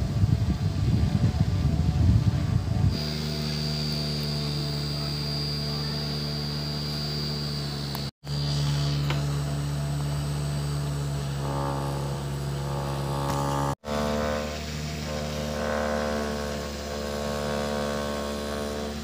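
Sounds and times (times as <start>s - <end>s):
small fan motor humming: 0.0s - 19.0s
thin high whine: 0.0s - 19.0s.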